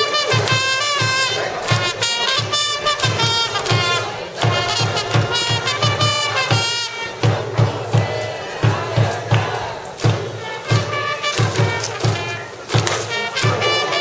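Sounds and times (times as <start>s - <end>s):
crowd: 0.0s - 14.0s
steady drum beat: 0.0s - 14.0s
trumpets playing fight song: 0.0s - 14.0s.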